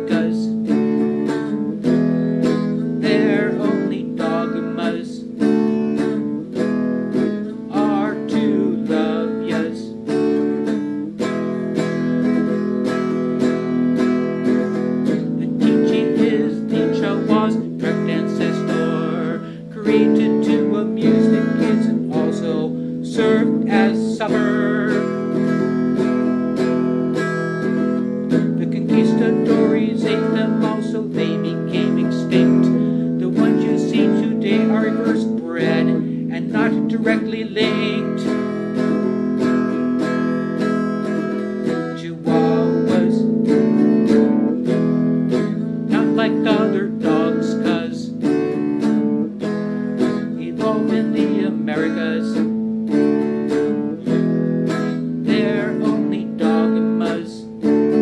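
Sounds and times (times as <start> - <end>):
electric guitar strumming: 0.0 - 58.0
man singing: 0.0 - 58.0.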